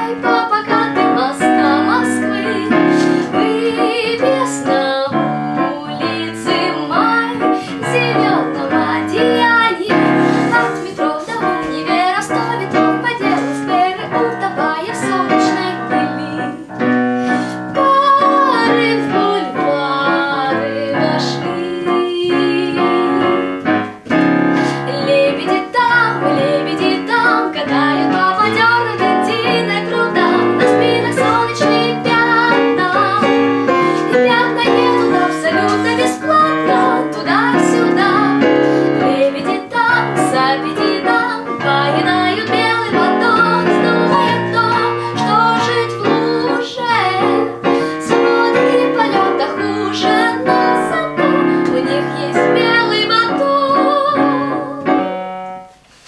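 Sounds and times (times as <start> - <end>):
woman singing: 0.0 - 55.2
piano playing chords: 0.0 - 55.8.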